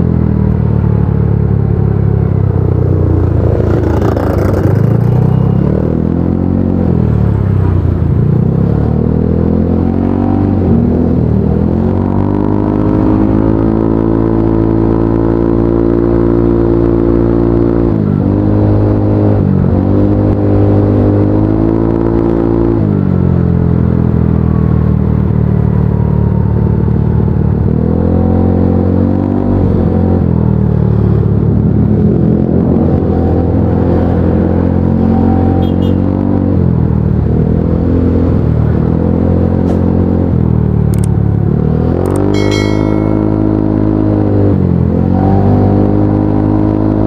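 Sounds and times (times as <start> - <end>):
motorcycle engine revving: 1.4 - 22.8, 27.6 - 47.0.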